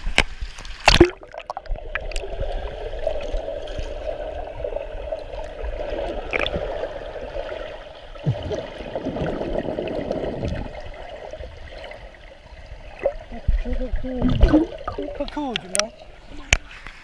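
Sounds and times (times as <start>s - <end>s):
underwater bubbling: 0.0s - 17.0s
muffled underwater rushing: 0.8s - 17.0s.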